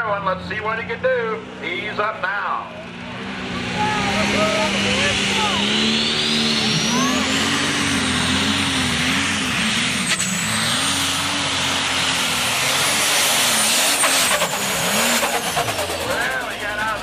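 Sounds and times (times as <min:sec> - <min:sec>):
diesel tractor engine at full throttle: 0:00.0 - 0:17.0.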